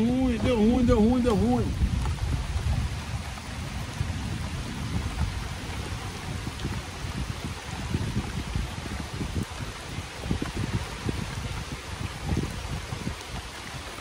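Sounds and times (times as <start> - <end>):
low rumbling: 0.0 - 13.2
rain falling steadily: 0.0 - 14.0.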